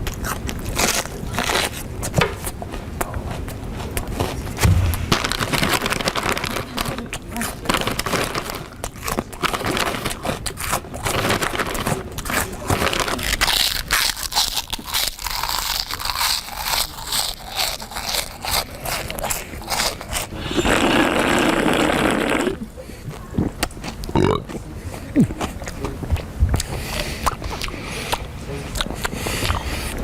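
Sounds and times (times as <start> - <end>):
continuous rasping noise: 0.0 - 30.0
noisy eating crunching food: 0.0 - 30.0.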